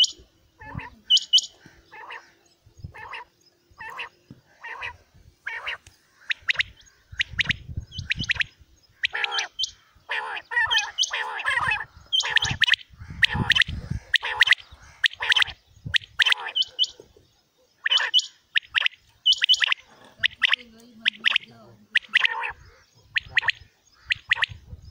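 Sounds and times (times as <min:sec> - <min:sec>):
harsh rough quail calls: 0:00.0 - 0:24.9
quails calling: 0:00.0 - 0:24.9.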